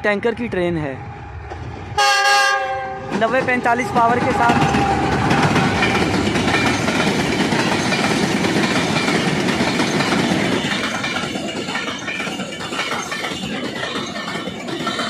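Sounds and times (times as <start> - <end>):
goods train wheels rumbling on rails: 0.0 - 15.0.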